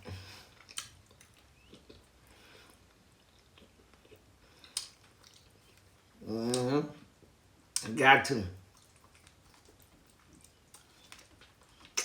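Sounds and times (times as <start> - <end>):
person chewing food: 0.0 - 7.8, 8.6 - 12.0.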